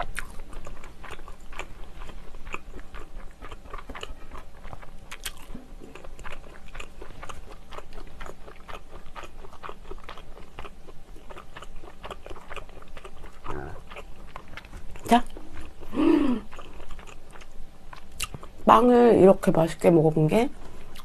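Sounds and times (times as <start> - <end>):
chewing bread: 0.0 - 18.7.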